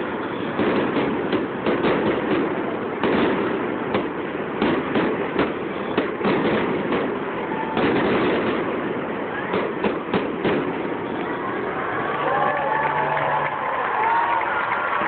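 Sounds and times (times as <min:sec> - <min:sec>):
continuous din of fireworks bursts: 0:00.0 - 0:15.0
fireworks bangs: 0:00.0 - 0:15.0.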